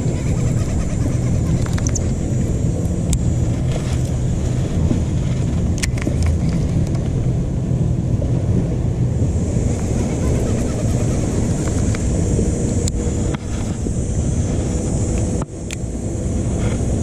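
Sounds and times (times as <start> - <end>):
trolling motor humming: 0.0 - 17.0.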